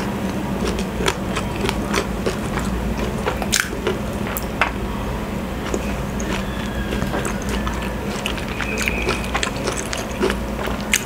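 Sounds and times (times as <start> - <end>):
chewing food: 0.0 - 4.8, 5.6 - 11.0
crunchy clicks: 0.0 - 4.8, 5.6 - 11.0
low hum: 0.0 - 11.0.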